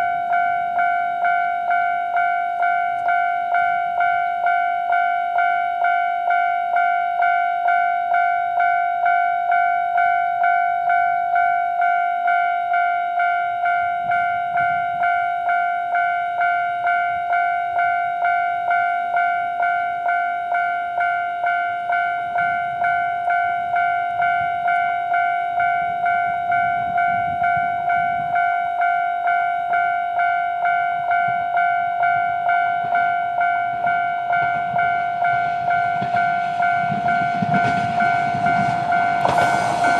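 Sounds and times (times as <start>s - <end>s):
level-crossing warning bell: 0.0s - 39.9s
low rumble of approaching train: 0.0s - 39.9s.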